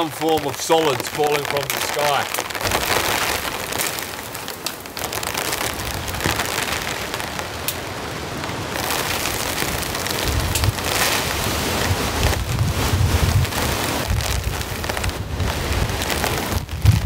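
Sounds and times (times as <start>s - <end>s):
low wind rumble: 0.0s - 17.0s
sleet and hail pattering: 0.0s - 17.0s.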